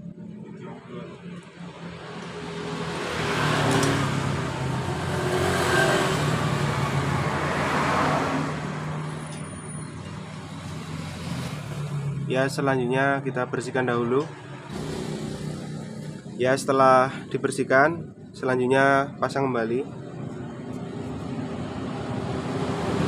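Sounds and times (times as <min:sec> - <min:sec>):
engine hum of traffic: 0:00.0 - 0:23.0
vehicles passing: 0:00.0 - 0:23.0.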